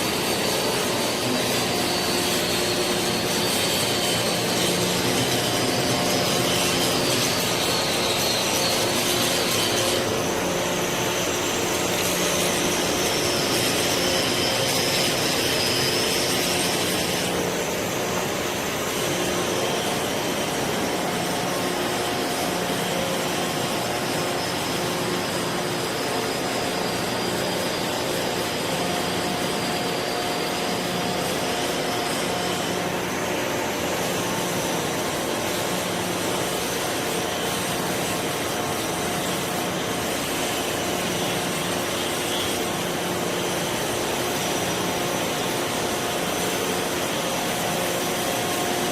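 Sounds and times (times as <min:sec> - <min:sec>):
faint high machine whine: 0:00.0 - 0:48.9.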